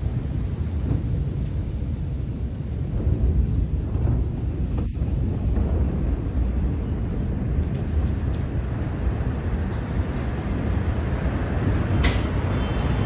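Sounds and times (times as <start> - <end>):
low rumbling roar: 0.0 - 13.0.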